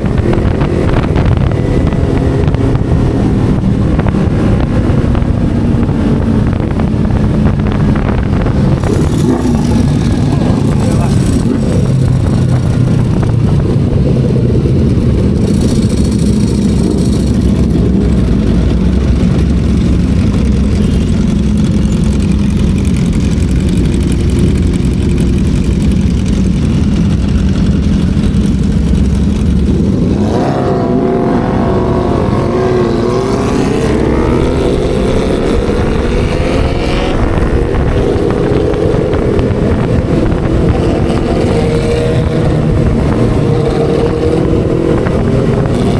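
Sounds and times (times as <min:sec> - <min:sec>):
motorcycle engine and exhaust: 0:00.0 - 0:45.9.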